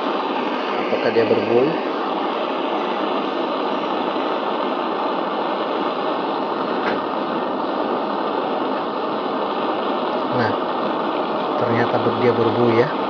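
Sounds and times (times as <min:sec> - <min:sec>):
butane torch hissing: 0:00.0 - 0:13.0.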